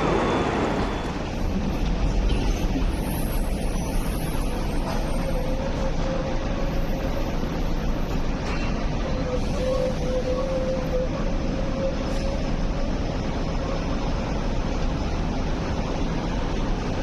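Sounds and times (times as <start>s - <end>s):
light rail train running: 0.0s - 17.0s.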